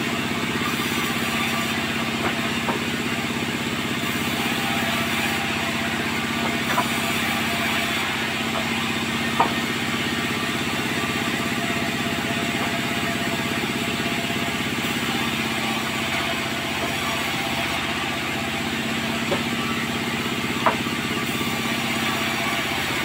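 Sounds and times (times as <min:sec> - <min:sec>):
sawmill machinery droning: 0:00.0 - 0:23.0.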